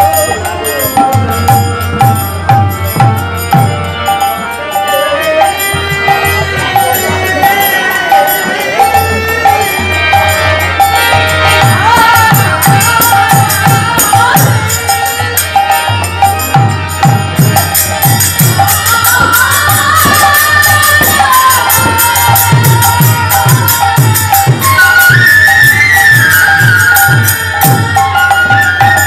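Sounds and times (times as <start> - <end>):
violin: 0.0 - 29.0
women singing in chorus: 3.7 - 16.7, 17.4 - 29.0.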